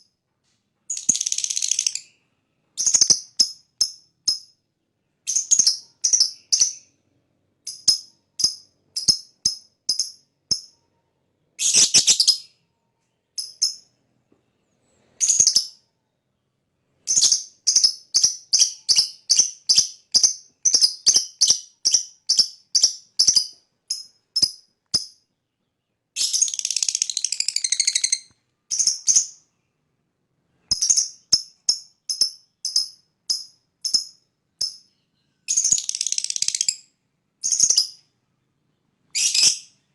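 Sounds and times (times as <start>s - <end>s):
lovebird chirping: 0.8s - 29.8s, 30.5s - 39.9s.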